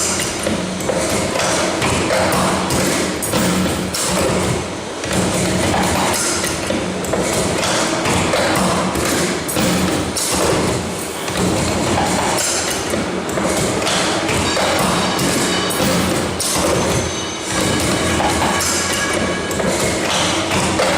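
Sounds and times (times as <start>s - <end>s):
machine thumps and knocks: 0.0s - 20.9s.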